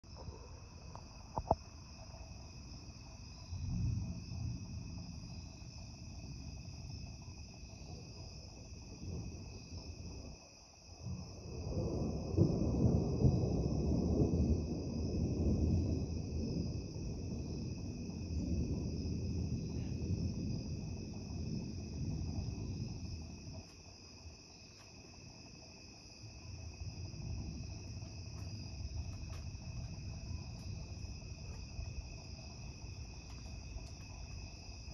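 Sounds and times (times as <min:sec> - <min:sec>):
crickets and insects chirping: 0:00.0 - 0:34.9.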